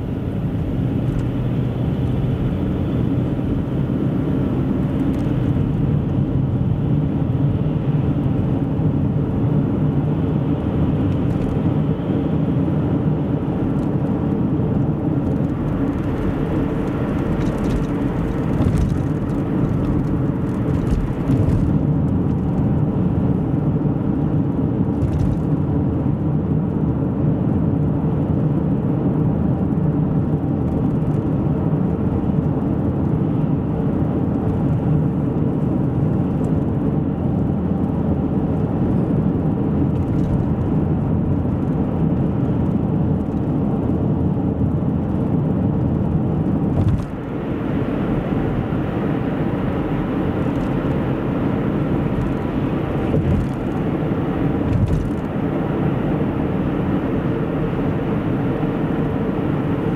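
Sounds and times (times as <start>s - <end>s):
car interior road noise: 0.0s - 59.9s.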